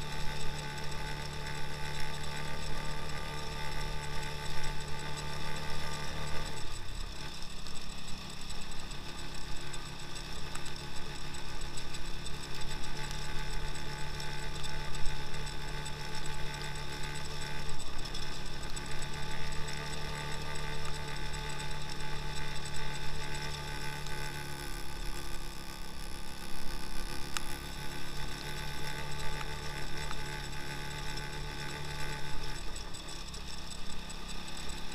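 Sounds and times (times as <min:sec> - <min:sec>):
motorcycle engine running steadily: 0:00.0 - 0:34.9.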